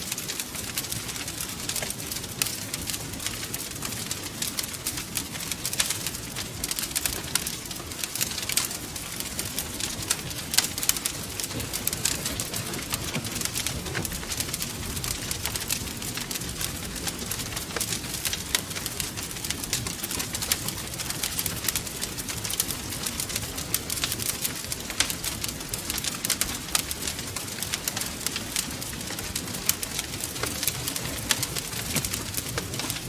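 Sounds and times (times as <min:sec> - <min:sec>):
low rumble of flames: 0:00.0 - 0:33.0
wood fire crackling and popping: 0:00.0 - 0:33.0.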